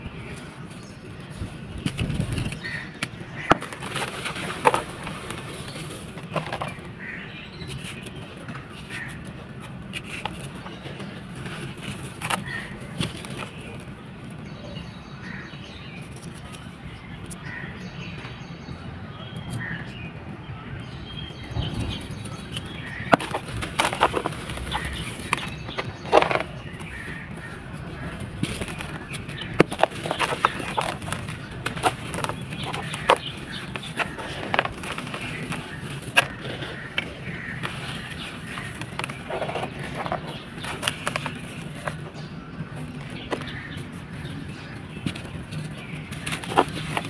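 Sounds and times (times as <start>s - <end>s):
gritty crunching and crackling: 1.2s - 14.1s, 21.4s - 47.0s.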